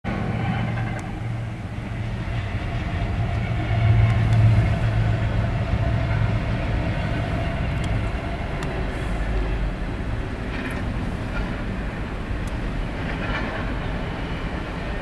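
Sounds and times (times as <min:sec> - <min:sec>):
diesel locomotives passing: 0:00.1 - 0:15.0.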